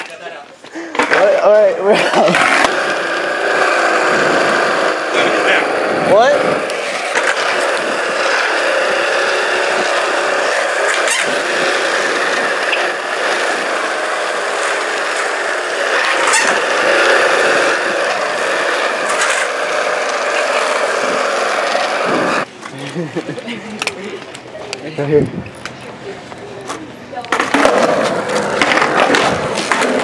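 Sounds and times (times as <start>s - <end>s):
skateboard wheels rolling: 0.0s - 30.0s
skateboard clacks: 0.9s - 22.5s, 23.2s - 24.8s, 26.7s - 30.0s.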